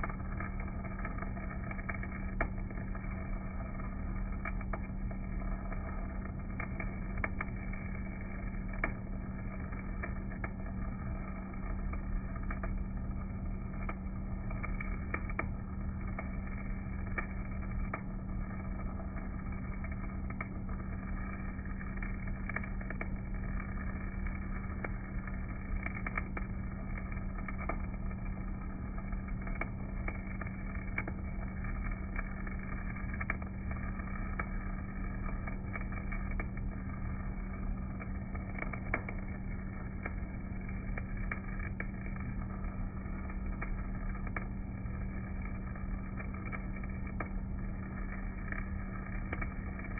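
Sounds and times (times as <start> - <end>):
welder generator humming: 0.0 - 49.9
welding arc crackling and popping: 0.0 - 49.9.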